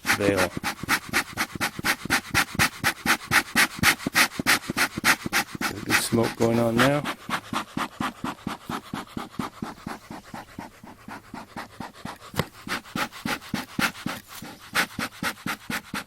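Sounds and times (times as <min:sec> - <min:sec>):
bellows puffing air: 0:00.0 - 0:16.0.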